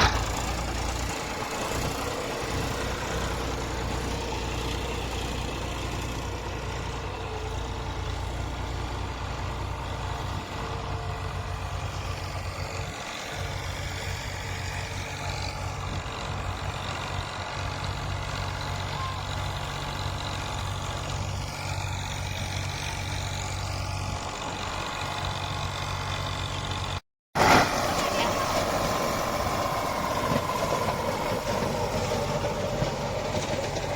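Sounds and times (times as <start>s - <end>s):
rotavator working: 0.0s - 33.9s
tractor diesel engine running: 0.0s - 33.9s.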